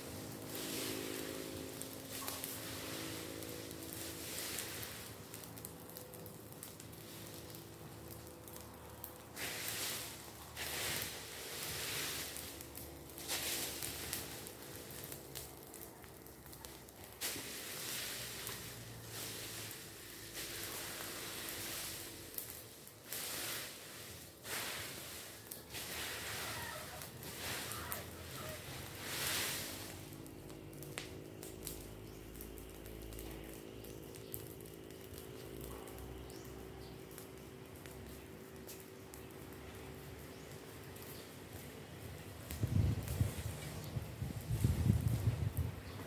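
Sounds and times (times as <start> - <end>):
fire crackling and hissing: 0.0 - 46.0.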